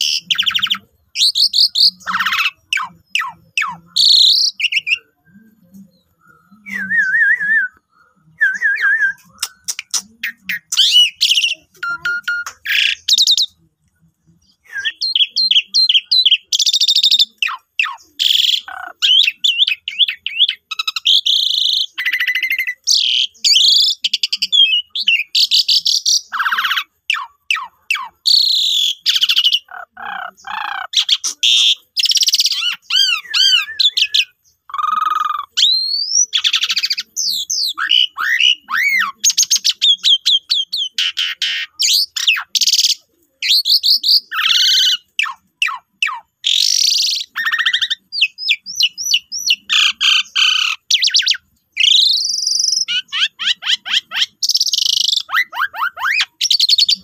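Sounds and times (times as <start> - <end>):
starling singing: 0.0 - 57.0.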